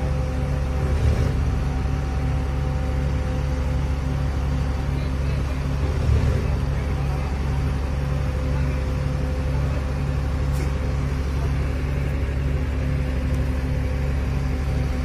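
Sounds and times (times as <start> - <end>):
crane diesel engine running: 0.0 - 15.0.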